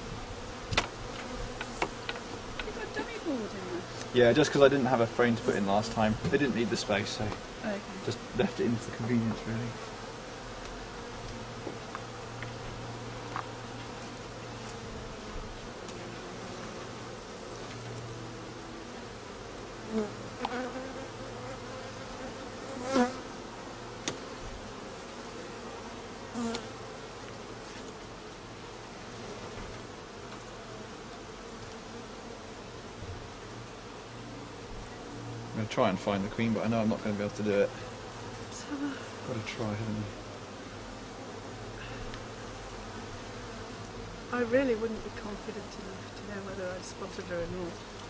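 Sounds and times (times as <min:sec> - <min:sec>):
bees buzzing: 0:00.0 - 0:48.0.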